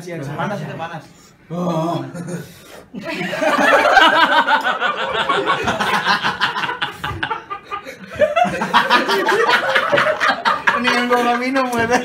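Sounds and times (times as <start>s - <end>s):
men laughing: 2.0s - 12.0s.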